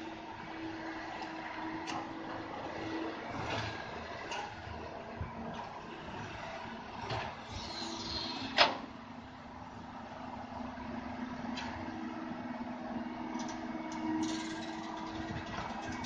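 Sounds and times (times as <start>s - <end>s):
excavator diesel engine humming: 0.0s - 16.0s.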